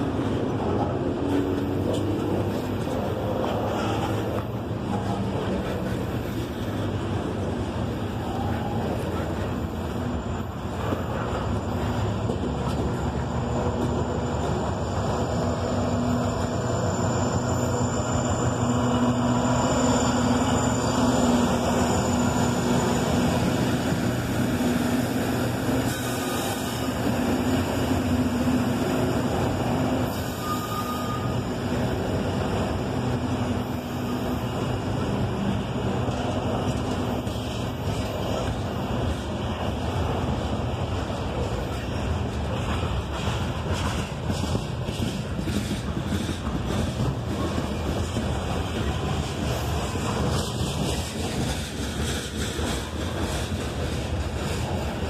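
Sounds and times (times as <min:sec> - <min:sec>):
diesel locomotive engine hum: 0:00.0 - 0:55.0
train wheels on rails: 0:00.0 - 0:55.0.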